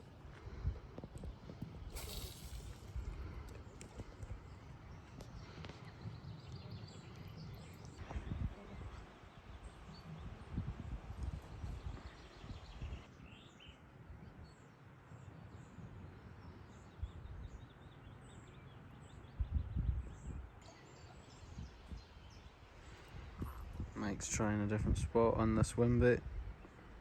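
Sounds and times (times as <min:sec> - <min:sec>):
faint small birds chirping: 0:00.0 - 0:24.4.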